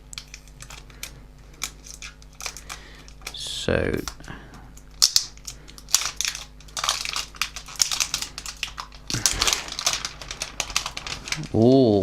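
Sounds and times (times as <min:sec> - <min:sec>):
packaging crinkling and rustling: 0:00.1 - 0:04.2, 0:04.8 - 0:11.8.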